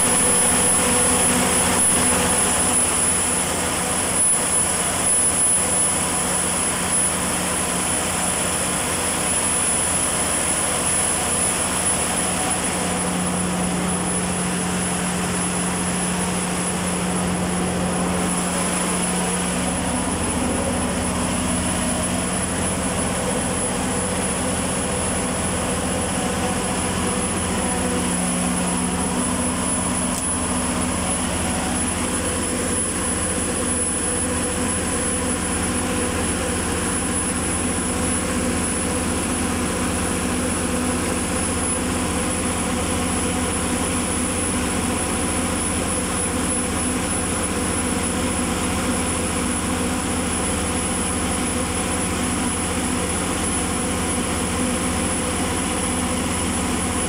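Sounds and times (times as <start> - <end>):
diesel generator engine droning: 0.0 - 57.0.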